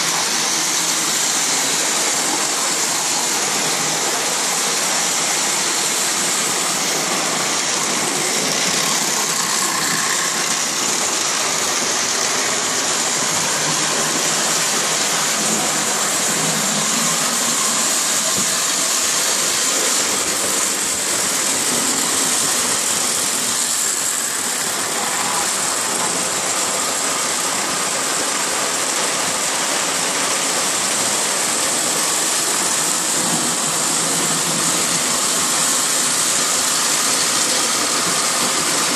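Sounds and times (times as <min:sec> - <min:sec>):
model train whirring: 0:00.0 - 0:38.9.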